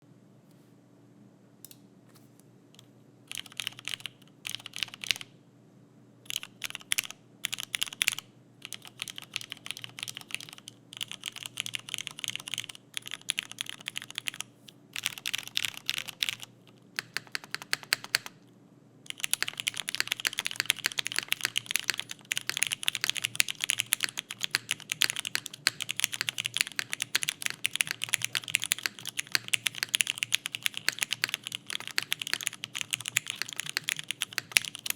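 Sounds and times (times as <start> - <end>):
mechanical keyboard typing: 3.3 - 5.3, 6.3 - 18.4, 19.1 - 34.9.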